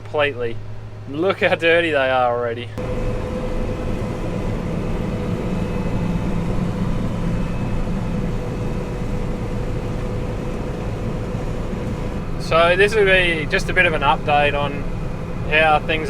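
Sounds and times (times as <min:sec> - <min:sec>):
combine harvester engine drone: 0:00.0 - 0:16.0
faint steady whine: 0:00.0 - 0:16.0.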